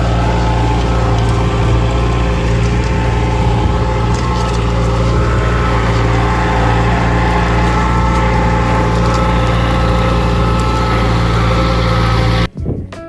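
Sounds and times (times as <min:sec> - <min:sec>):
tractor engine under load: 0:00.0 - 0:12.5.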